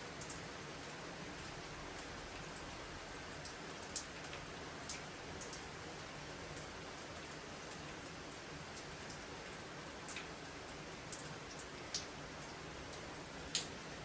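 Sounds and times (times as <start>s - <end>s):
steady rain falling: 0.0s - 14.0s
single raindrops ticking: 0.1s - 5.7s, 6.5s - 13.8s.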